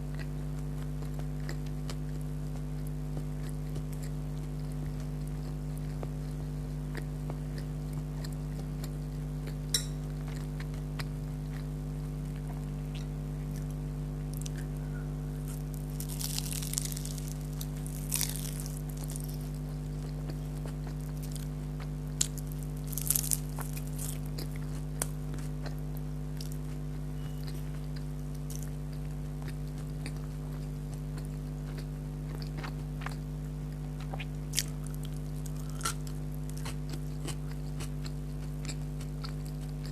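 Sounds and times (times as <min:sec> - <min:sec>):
chewing and crunching food: 0:00.0 - 0:39.9
low electrical hum: 0:00.0 - 0:39.9.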